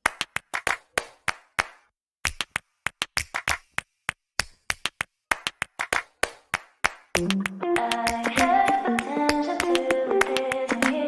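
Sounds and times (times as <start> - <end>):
quick sharp claps: 0.0 - 11.0.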